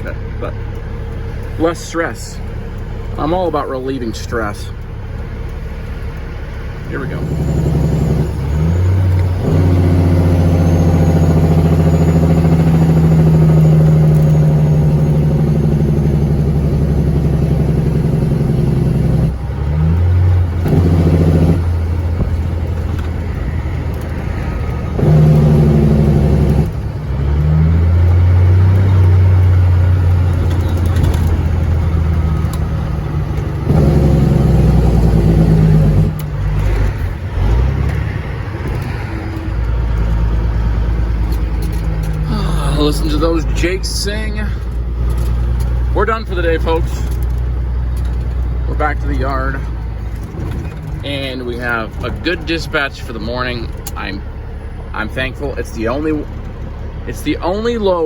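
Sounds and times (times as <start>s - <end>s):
truck diesel engine under load: 0.0s - 58.0s.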